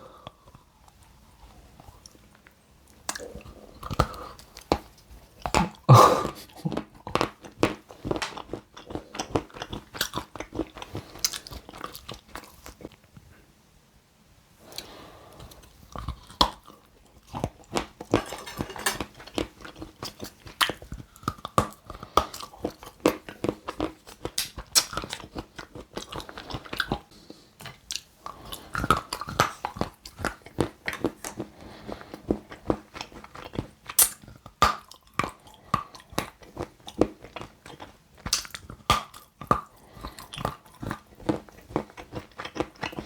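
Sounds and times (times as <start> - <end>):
crunchy chewing: 2.9 - 13.0, 14.7 - 43.0.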